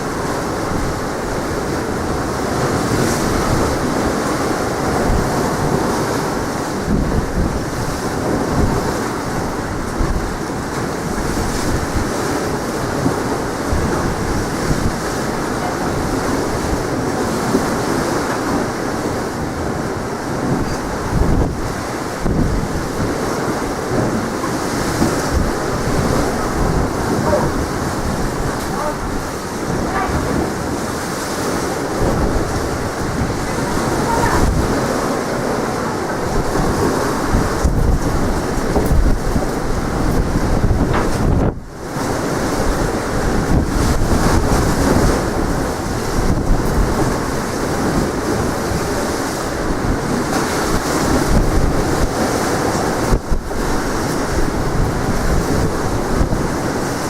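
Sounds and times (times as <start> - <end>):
sea waves and surf rushing: 0.0 - 57.0
wind buffeting microphone: 0.0 - 57.0.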